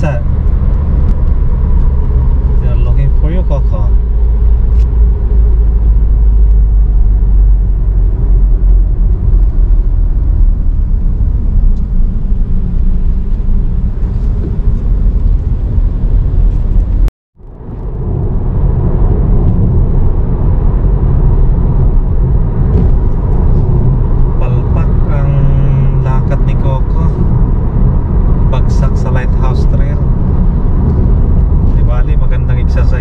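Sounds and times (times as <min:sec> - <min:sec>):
car cabin road and engine rumble: 0:00.0 - 0:33.0.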